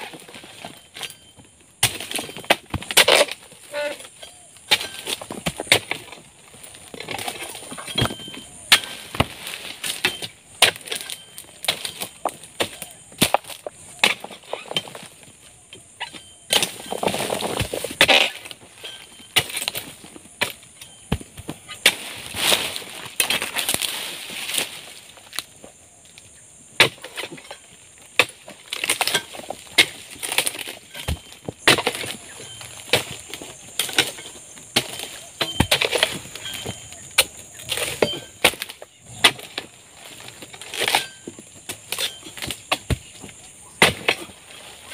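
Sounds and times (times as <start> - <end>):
fronds rustling and scraping: 0.0 - 44.9
chisel chopping palm stalks: 1.8 - 3.9, 4.6 - 15.2, 16.0 - 25.5, 26.8 - 44.7.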